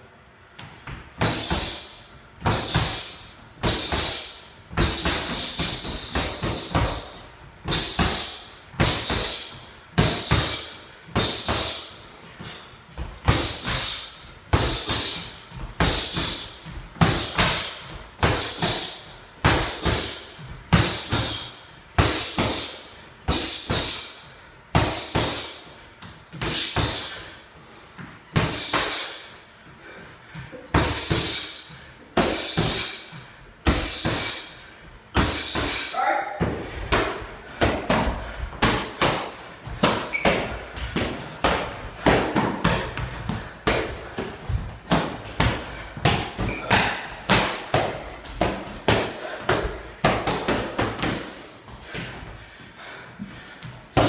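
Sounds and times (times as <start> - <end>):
boxing gloves hitting focus mitts: 0.6 - 27.3, 30.4 - 52.3.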